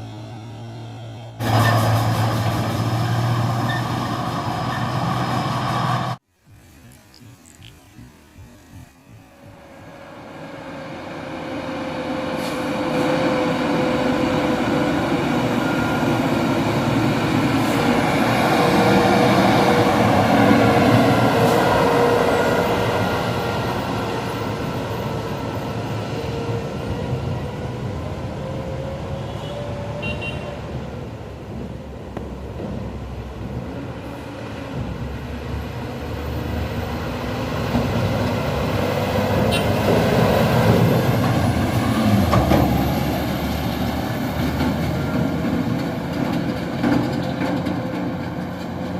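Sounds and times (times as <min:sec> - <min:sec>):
dump truck diesel engine passing: 0:00.0 - 0:06.2, 0:09.2 - 0:48.9
second truck approaching: 0:00.0 - 0:06.2, 0:09.2 - 0:48.9.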